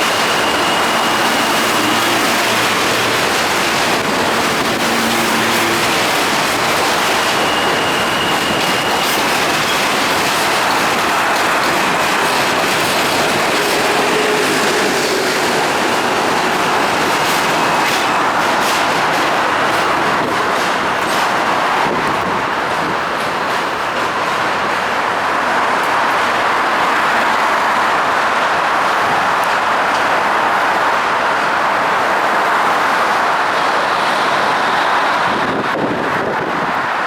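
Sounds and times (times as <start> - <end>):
subway train wheels rumbling: 0.0 - 37.0
wheels clicking over rail joints: 0.0 - 37.0.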